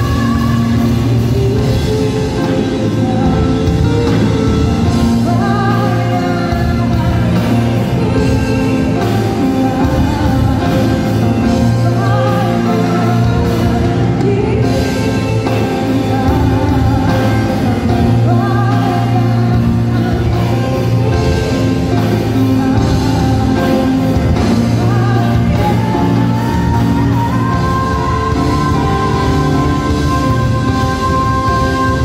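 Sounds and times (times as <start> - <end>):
live pop band: 0.0 - 32.0
woman singing: 0.0 - 32.0.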